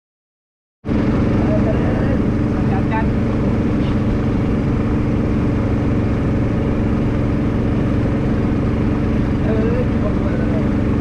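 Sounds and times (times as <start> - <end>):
motorboat engine droning: 0.8 - 11.0.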